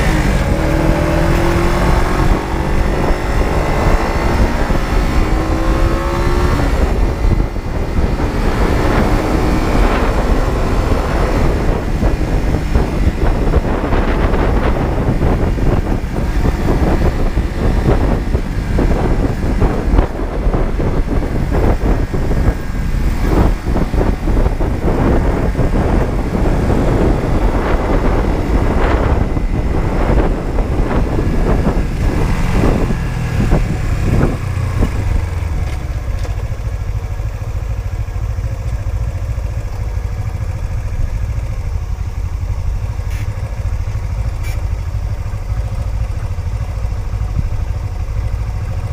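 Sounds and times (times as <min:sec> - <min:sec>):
motorcycle engine running: 0:00.0 - 0:48.9
wind rushing over microphone: 0:00.0 - 0:48.9.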